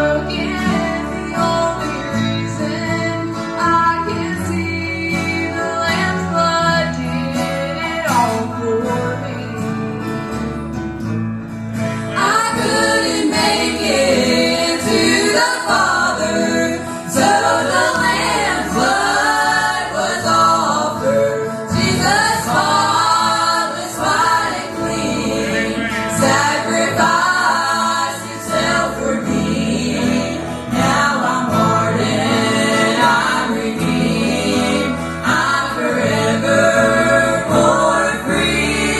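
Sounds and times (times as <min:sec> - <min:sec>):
group singing in harmony: 0:00.0 - 0:07.5, 0:12.0 - 0:38.9
guitar accompaniment: 0:00.0 - 0:38.9.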